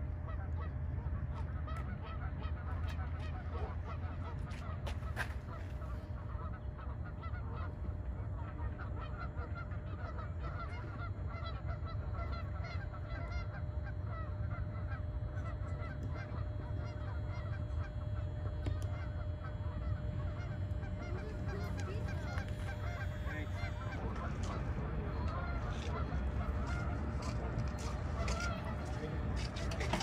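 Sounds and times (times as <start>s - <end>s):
geese honking: 0.0s - 30.0s
steady low rumble: 0.0s - 30.0s.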